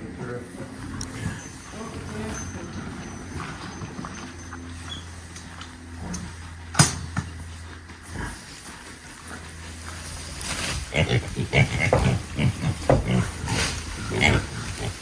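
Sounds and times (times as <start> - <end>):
pigs grunting: 0.0 - 15.0
steady low hum: 0.0 - 15.0.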